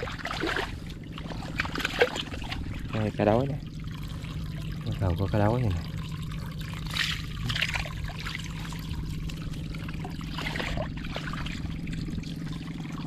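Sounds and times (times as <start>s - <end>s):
steady low hum: 0.0s - 13.0s
water pouring and trickling: 0.0s - 13.0s
water splashes: 0.0s - 13.0s.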